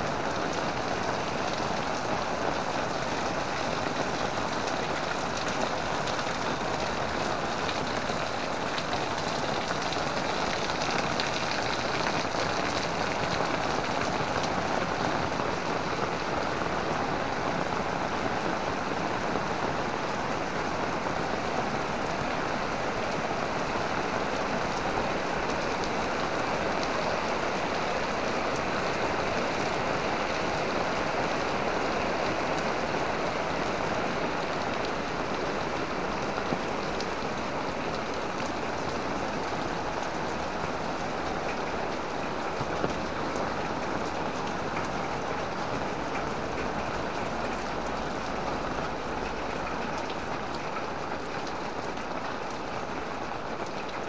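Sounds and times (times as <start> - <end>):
heavy rain on an umbrella: 0.0 - 54.0.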